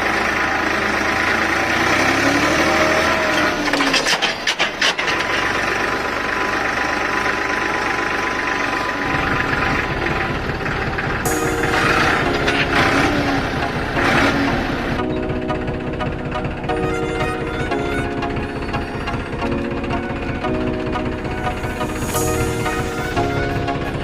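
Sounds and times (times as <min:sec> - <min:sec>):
mini tractor running: 0:00.0 - 0:24.0.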